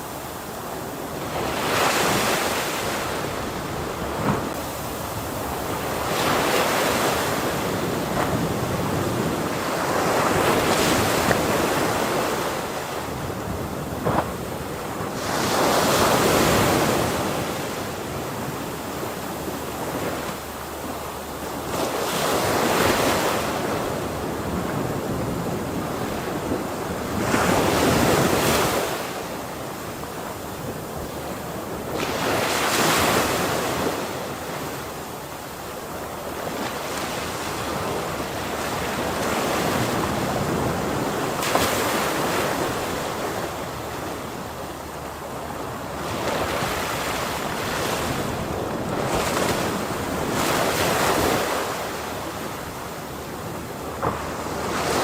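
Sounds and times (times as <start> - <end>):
ocean waves crashing: 0.0 - 55.0.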